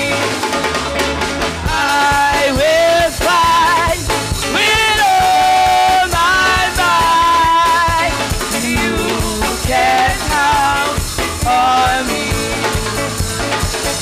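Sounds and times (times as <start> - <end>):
band with drum kit: 0.0 - 14.0
voices singing: 1.5 - 14.0.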